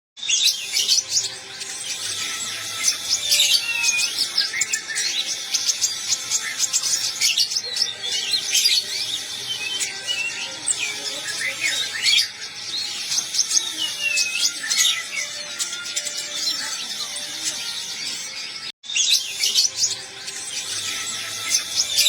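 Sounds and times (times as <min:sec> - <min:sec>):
songbird chirping and trilling: 0:00.2 - 0:22.0.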